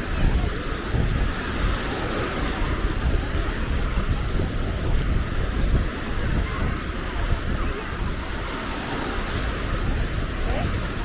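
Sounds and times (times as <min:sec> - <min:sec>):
small waves breaking: 0:00.0 - 0:11.0
wind buffeting microphone: 0:00.0 - 0:11.0.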